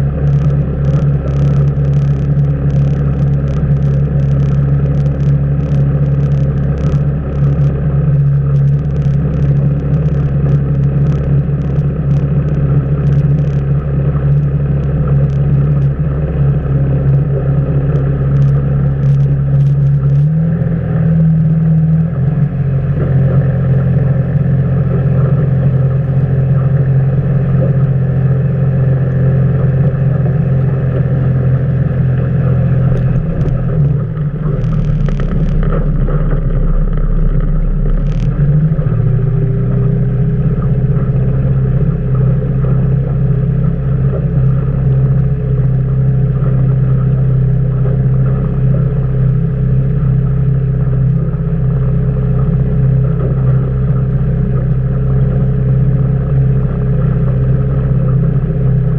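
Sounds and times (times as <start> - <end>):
outboard motor running: 0.0 - 58.9.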